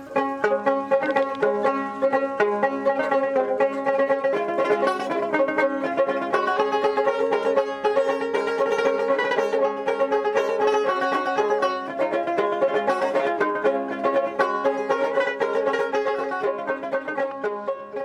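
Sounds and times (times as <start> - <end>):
plucked lute notes: 0.0 - 18.0.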